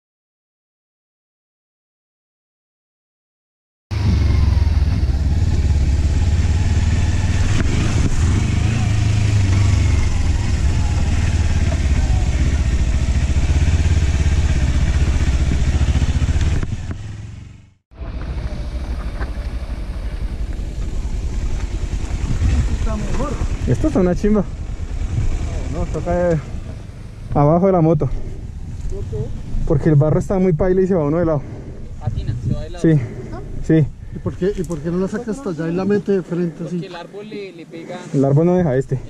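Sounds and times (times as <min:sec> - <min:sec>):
motorcycle engine rumbling: 0:03.9 - 0:37.8.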